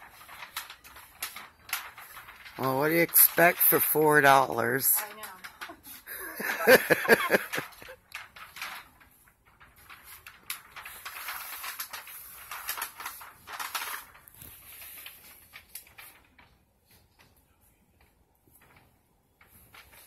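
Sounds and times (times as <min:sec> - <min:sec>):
paper window shade rustling: 0:00.0 - 0:20.0.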